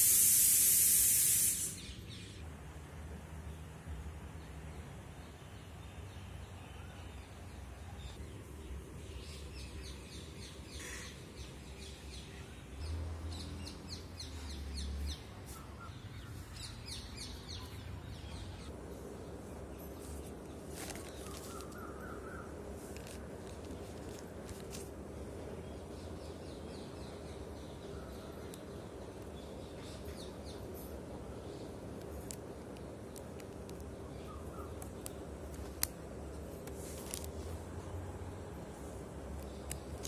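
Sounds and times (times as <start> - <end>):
faint birds chirping: 0.1 - 40.0.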